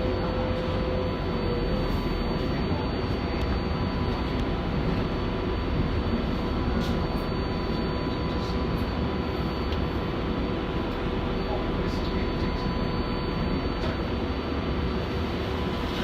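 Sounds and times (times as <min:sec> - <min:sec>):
faint whining tones: 0:00.0 - 0:16.0.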